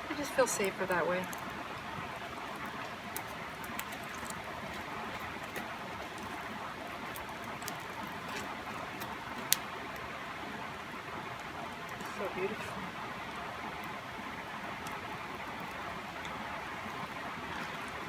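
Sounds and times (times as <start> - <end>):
campfire crackling and popping: 0.1 - 18.0.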